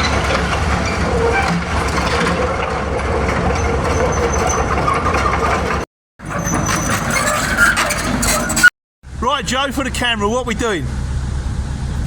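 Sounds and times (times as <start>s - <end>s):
diesel engine low rumble: 0.0s - 12.0s.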